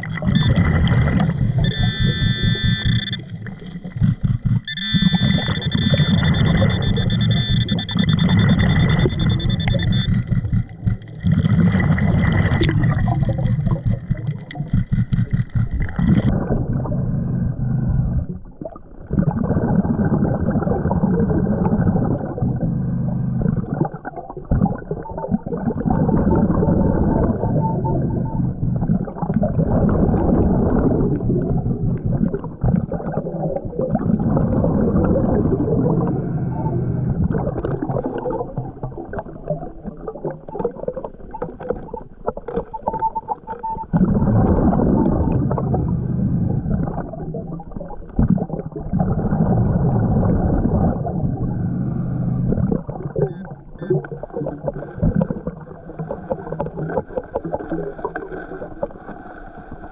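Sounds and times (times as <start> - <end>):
underwater exhaled bubbles: 0.0 - 59.9.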